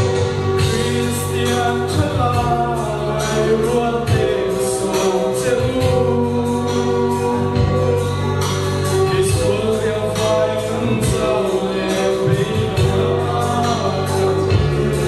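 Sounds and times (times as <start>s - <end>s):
bass and keyboard notes: 0.0s - 15.0s
steady beat: 0.0s - 15.0s
man singing into microphone: 0.4s - 15.0s.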